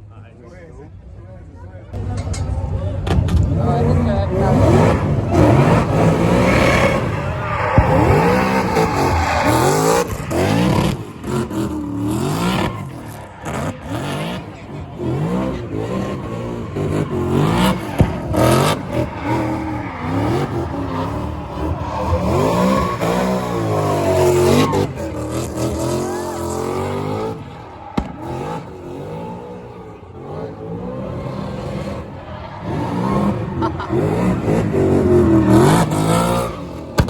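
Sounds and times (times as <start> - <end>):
car engine revving: 3.1 - 37.0
tyres squealing and skidding: 3.5 - 37.0.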